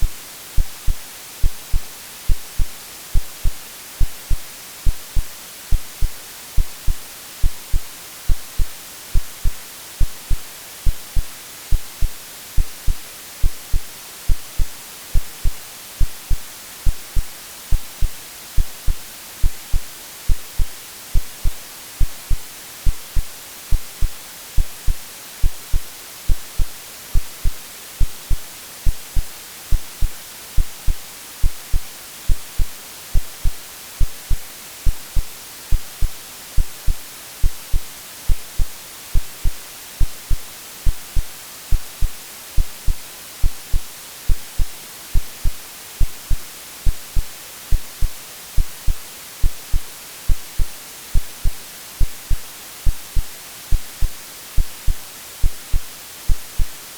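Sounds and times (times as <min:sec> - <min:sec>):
heartbeat thumps: 0:00.0 - 0:56.8
white noise hiss: 0:00.0 - 0:56.9.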